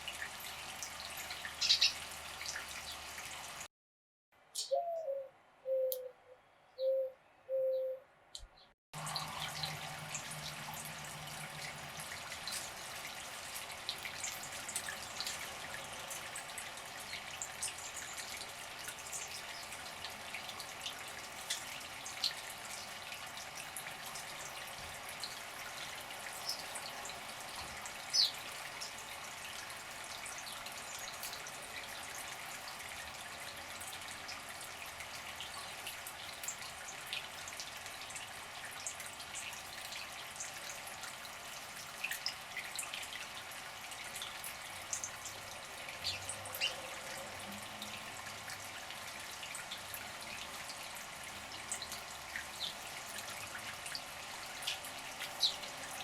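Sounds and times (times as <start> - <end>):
water splashing in bird bath: 0.0 - 3.7, 9.0 - 56.0.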